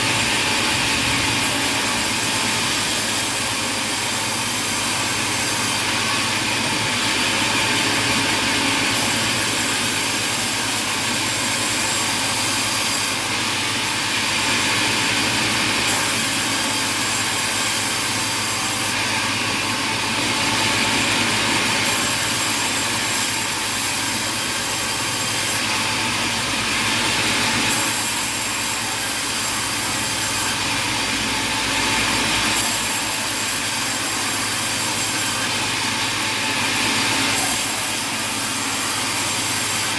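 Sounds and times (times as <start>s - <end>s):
sawmill saws cutting timber: 0.0s - 39.9s.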